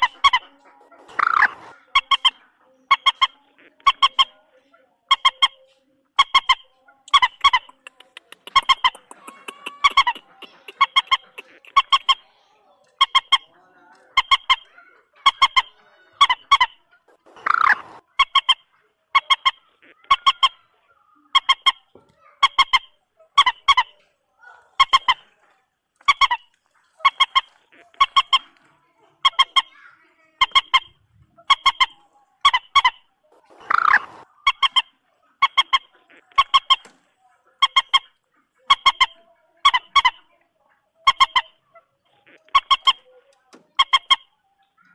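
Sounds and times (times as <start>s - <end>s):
moorhen calling: 0.0s - 4.4s, 5.1s - 12.3s, 12.9s - 23.9s, 26.0s - 37.0s, 37.6s - 40.3s, 41.0s - 44.9s.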